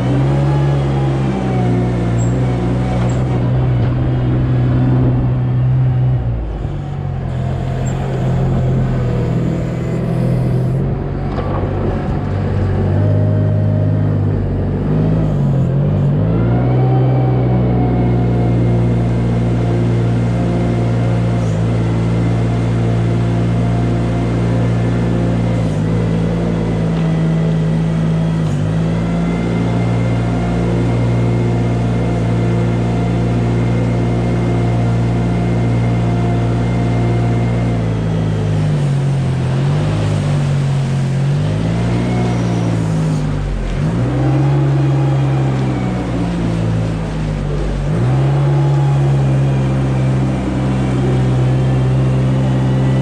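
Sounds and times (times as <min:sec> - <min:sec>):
farm machinery engine running: 0:00.0 - 0:53.0.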